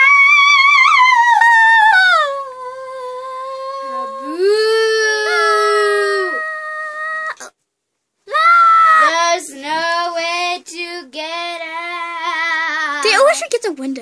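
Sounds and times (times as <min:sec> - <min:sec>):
girl singing long notes: 0:00.0 - 0:07.5, 0:08.3 - 0:13.1.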